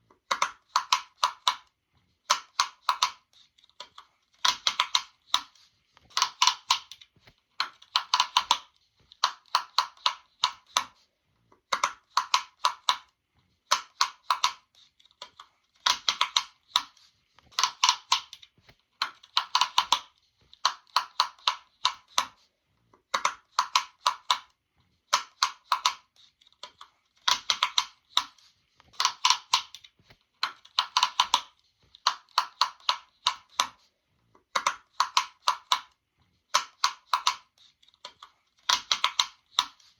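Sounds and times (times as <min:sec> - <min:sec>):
sharp popping clicks: 0:00.3 - 0:01.7, 0:02.3 - 0:11.0, 0:13.7 - 0:22.4, 0:23.1 - 0:24.5, 0:25.1 - 0:33.8, 0:34.5 - 0:39.9.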